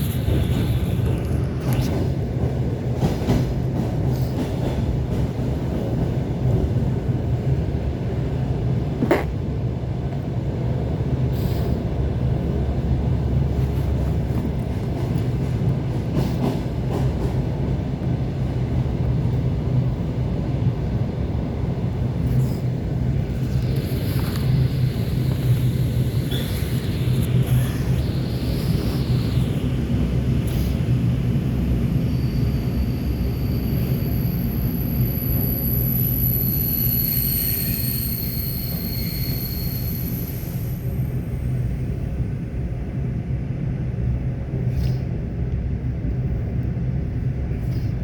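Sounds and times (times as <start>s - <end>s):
train rumble and hum: 0.0s - 48.0s.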